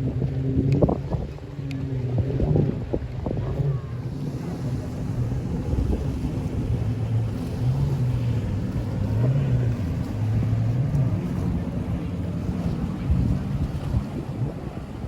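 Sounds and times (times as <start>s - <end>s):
jet ski engine revving: 0.0s - 15.0s
wind noise on microphone: 0.0s - 15.0s.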